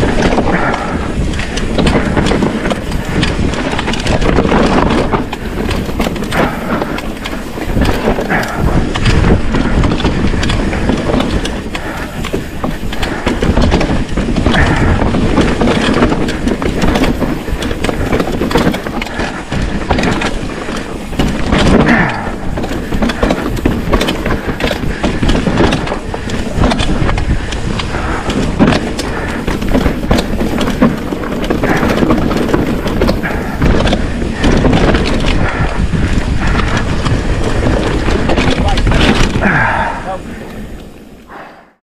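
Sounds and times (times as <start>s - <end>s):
tyres crunching over dirt and stones: 0.0s - 41.0s
bike rattling over bumps: 0.0s - 41.7s.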